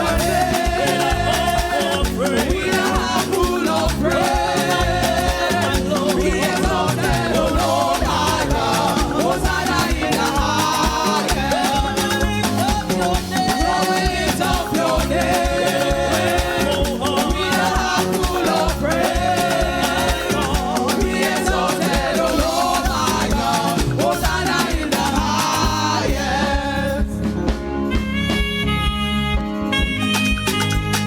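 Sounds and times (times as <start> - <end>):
gospel singers: 0.0 - 28.2
band with danceable beat: 0.0 - 31.0.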